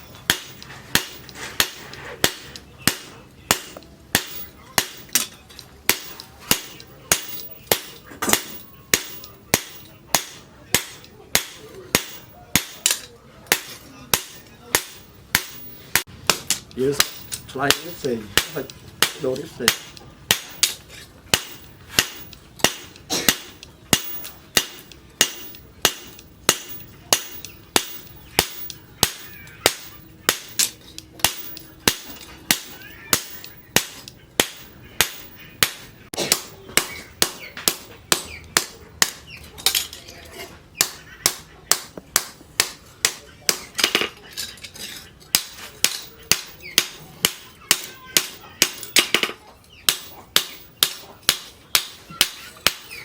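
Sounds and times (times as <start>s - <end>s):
hammer striking steel on anvil: 0.0s - 40.0s, 40.8s - 53.0s.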